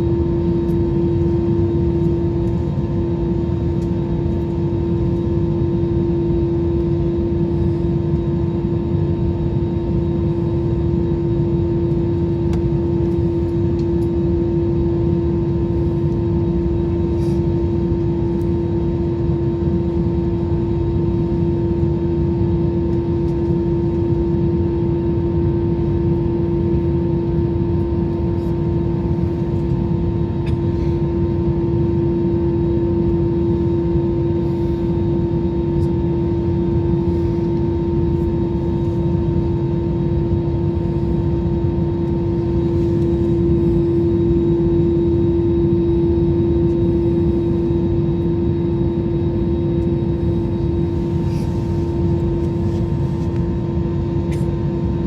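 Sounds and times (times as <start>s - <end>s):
jet airliner cabin noise: 0.0s - 55.0s.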